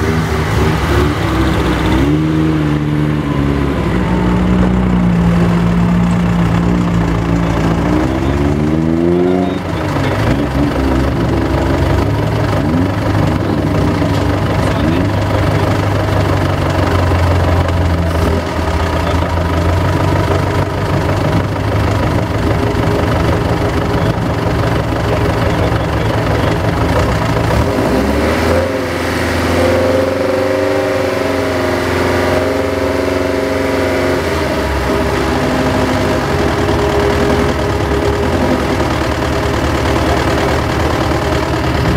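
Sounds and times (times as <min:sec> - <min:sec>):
sports car engine revving: 0:00.0 - 0:41.9.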